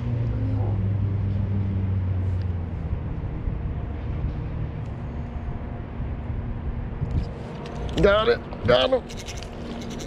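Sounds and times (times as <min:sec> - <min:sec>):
motor vehicle engine hum: 0:00.0 - 0:10.0.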